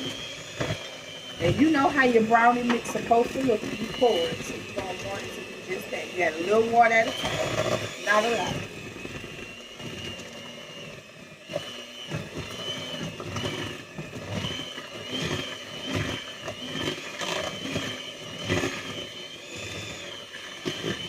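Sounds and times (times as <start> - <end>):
electric mixer motor whine: 0.0 - 21.0.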